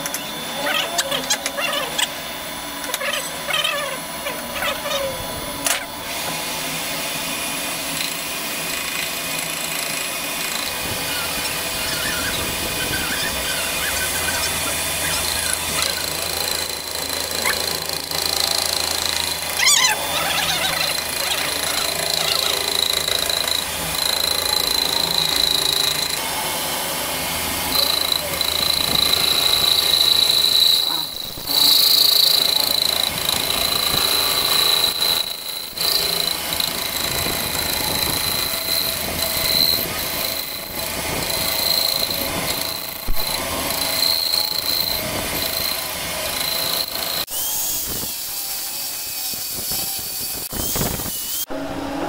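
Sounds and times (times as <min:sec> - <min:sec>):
lathe tool squealing: 0:00.0 - 0:06.3, 0:07.9 - 0:51.6
lathe humming: 0:00.0 - 0:47.3.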